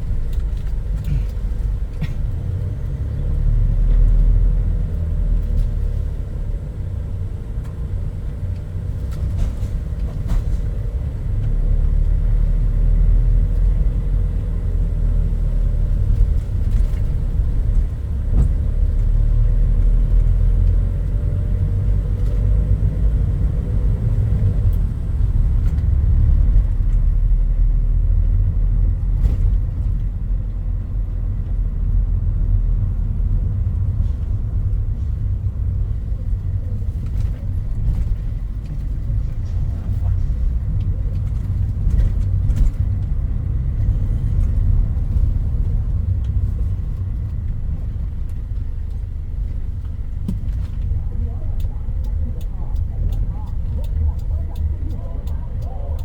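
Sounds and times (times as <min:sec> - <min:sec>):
truck engine and road rumble: 0:00.0 - 0:56.0.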